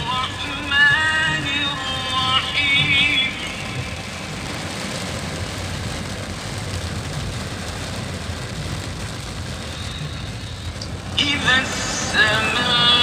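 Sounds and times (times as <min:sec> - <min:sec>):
low rumble: 0:00.0 - 0:13.0
rain on car body: 0:00.0 - 0:13.0
tyres on wet road: 0:00.0 - 0:13.0.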